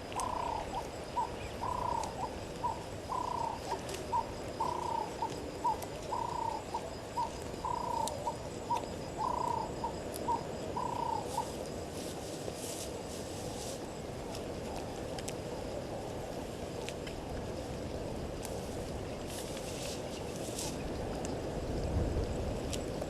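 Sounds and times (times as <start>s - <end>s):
faint high-pitched insect tones: 0.0s - 23.0s.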